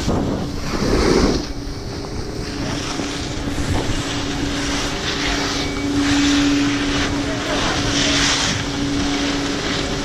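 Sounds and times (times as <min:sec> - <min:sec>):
skis scraping over snow: 0:00.0 - 0:10.0
steady mechanical hum: 0:00.0 - 0:10.0.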